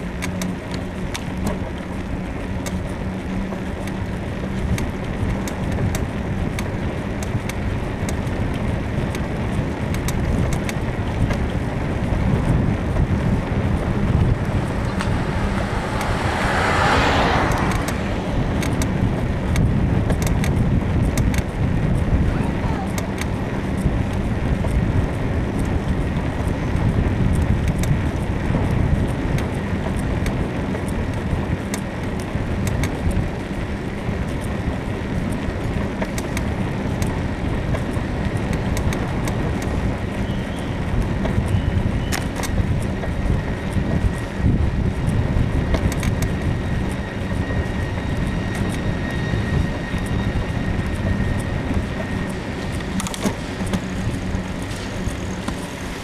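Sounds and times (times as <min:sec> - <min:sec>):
bicycle suspension clicks and creaks: 0:00.0 - 0:56.0
wind and rolling noise: 0:00.0 - 0:56.0.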